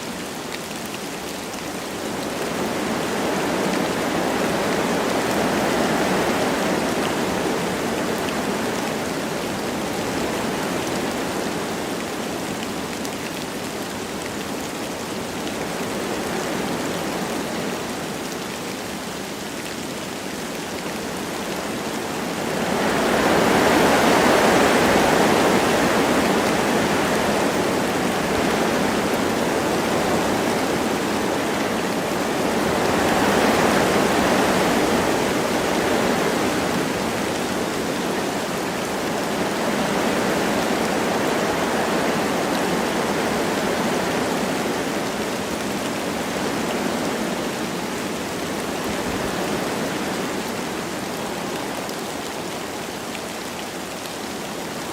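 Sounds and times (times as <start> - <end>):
light rain falling: 0.0 - 54.9
wind rushing through trees: 0.0 - 54.9.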